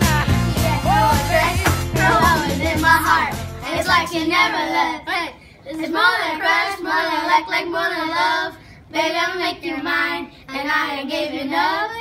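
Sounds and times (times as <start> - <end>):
boys singing unaccompanied: 0.0 - 12.0.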